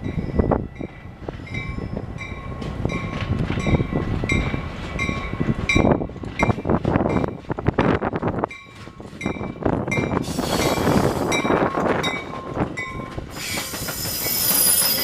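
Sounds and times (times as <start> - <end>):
train rumble: 0.0 - 15.0
train wheels clacking over rail joints: 2.6 - 15.0.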